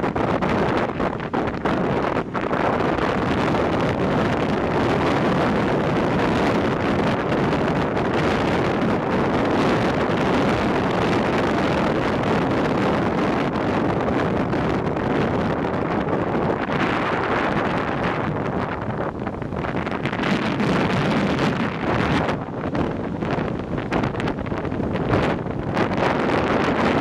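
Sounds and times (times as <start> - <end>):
wind blowing across microphone: 0.0 - 27.0.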